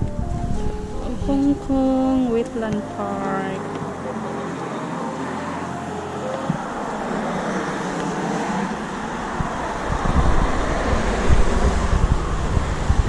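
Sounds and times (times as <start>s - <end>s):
wind buffeting microphone: 0.0s - 13.0s
road traffic hiss: 0.1s - 13.0s.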